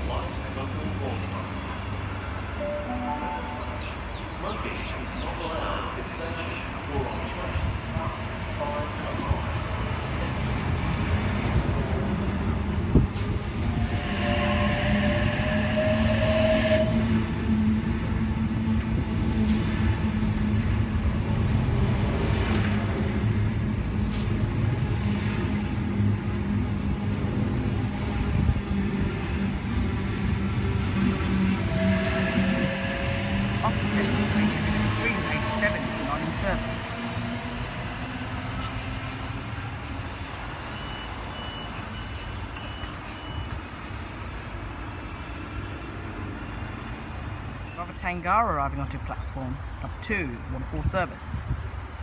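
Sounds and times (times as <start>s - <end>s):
train wheels rumbling on rail: 3.8s - 47.7s.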